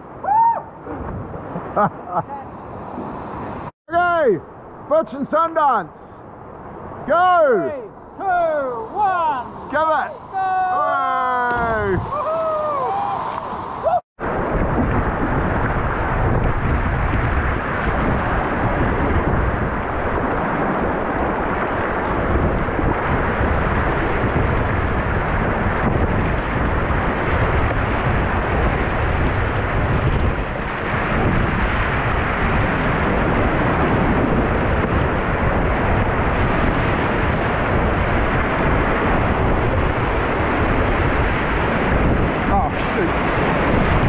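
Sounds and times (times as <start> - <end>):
wind buffeting microphone: 6.6 - 44.0.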